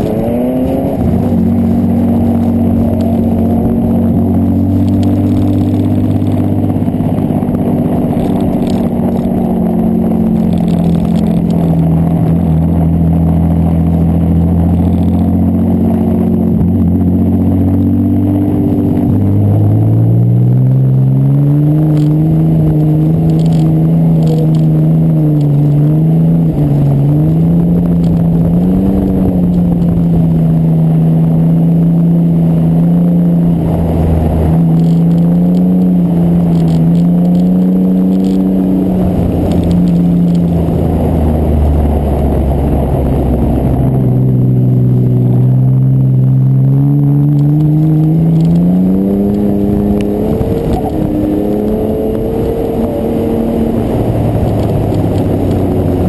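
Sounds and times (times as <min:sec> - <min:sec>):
car engine revving: 0:00.0 - 0:56.0
wind and tyre noise: 0:00.0 - 0:56.0.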